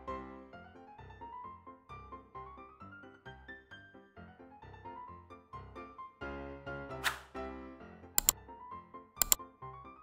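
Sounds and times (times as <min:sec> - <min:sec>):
light background music: 0:00.0 - 0:10.0.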